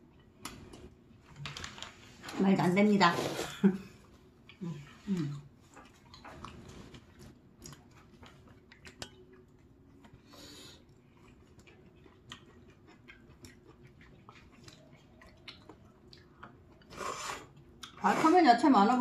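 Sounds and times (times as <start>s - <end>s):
soft chewing: 0.0s - 2.4s, 3.2s - 18.0s.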